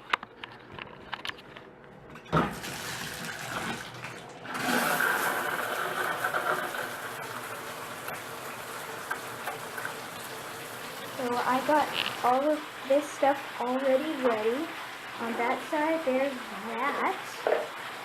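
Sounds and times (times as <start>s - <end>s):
shower water spraying: 2.5s - 18.0s.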